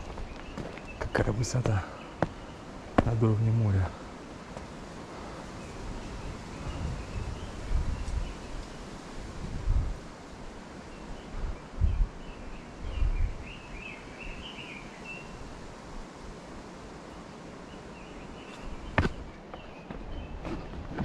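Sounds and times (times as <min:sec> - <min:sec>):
steady outdoor hiss: 0:00.0 - 0:21.0.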